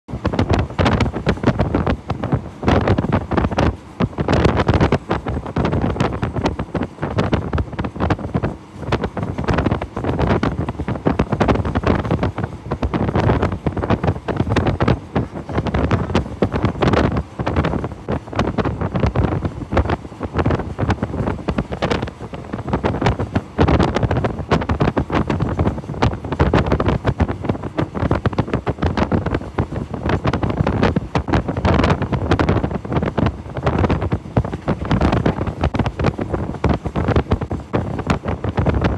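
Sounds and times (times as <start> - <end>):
train running rumble: 0.1 - 38.9
wind buffeting the microphone: 0.1 - 38.9.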